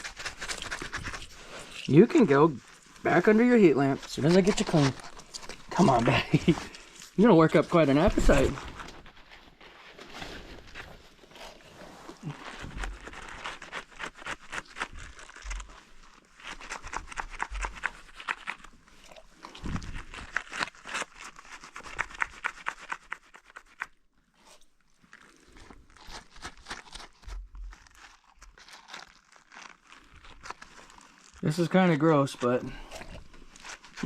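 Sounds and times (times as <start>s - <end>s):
hands scrubbing wet soapy wool: 0.0s - 34.0s.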